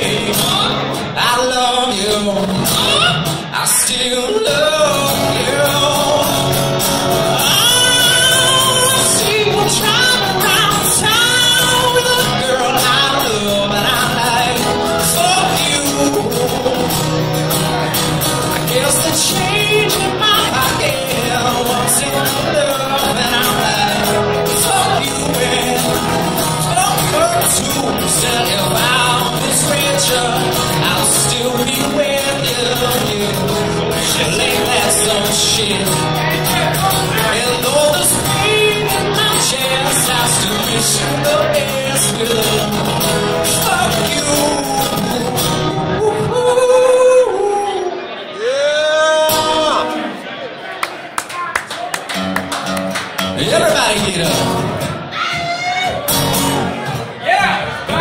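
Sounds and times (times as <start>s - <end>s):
man singing into a microphone: 0.0s - 50.2s, 53.3s - 56.5s
acoustic guitars playing: 0.0s - 50.8s, 51.9s - 58.0s.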